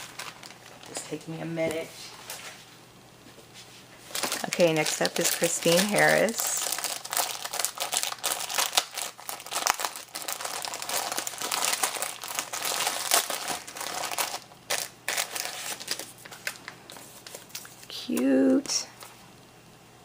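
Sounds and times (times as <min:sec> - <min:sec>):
packaging crinkling: 0:00.0 - 0:01.2, 0:04.0 - 0:19.2.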